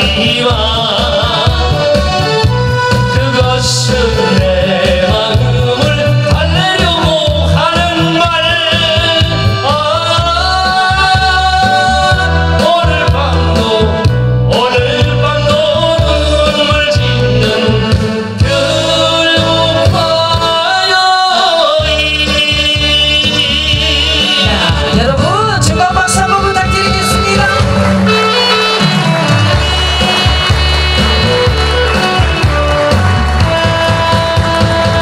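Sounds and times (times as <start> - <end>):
backing track with bass beat: 0.0 - 20.8, 21.8 - 35.0
man singing into microphone: 0.0 - 28.8.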